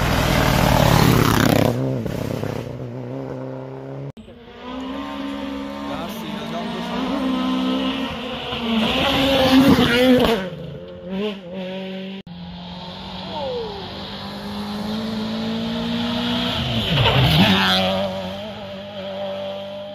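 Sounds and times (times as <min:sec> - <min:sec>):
rally car engine passing: 0:00.0 - 0:19.9.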